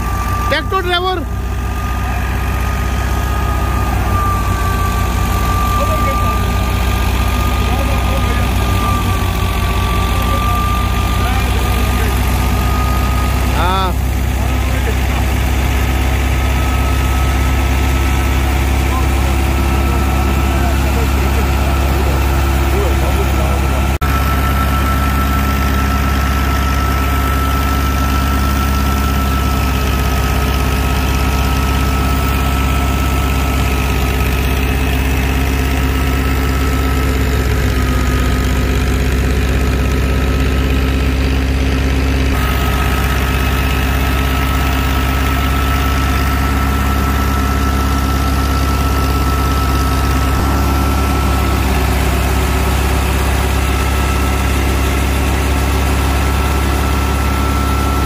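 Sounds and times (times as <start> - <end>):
machinery high whine: 0.0 - 58.0
tractor engine running: 0.0 - 58.0.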